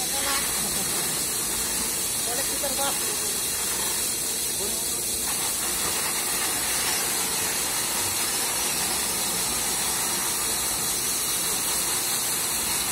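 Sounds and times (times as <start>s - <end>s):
grain pouring through metal chute: 0.0s - 12.9s.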